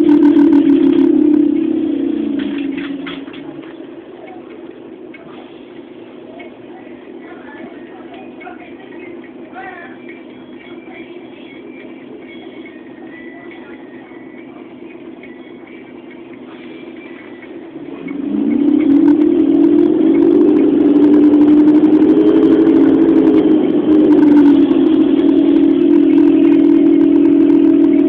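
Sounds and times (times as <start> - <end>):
bus diesel engine: 0.0 - 28.0.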